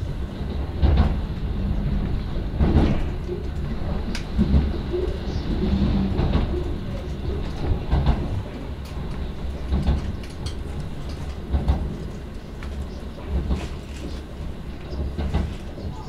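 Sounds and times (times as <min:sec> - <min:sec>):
train interior low rumble: 0:00.0 - 0:16.0
wheels knocking on track: 0:00.4 - 0:12.2, 0:14.8 - 0:16.0.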